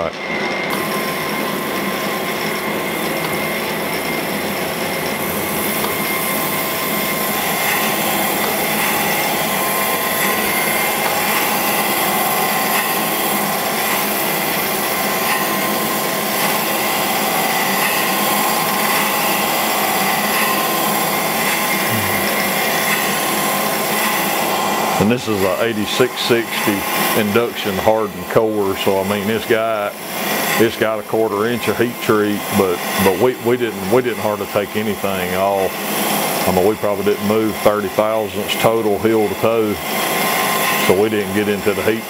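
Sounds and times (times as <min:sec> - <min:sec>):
grinding wheel grinding metal: 0:00.0 - 0:42.0
machine hum: 0:00.0 - 0:42.0.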